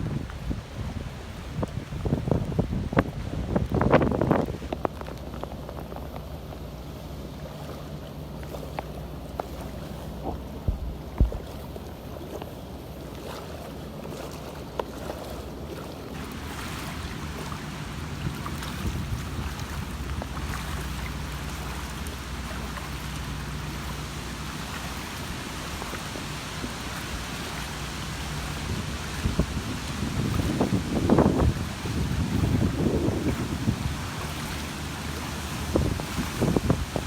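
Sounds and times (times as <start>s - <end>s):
outboard motor humming: 0.0s - 37.0s
wind and water noise: 0.0s - 37.0s.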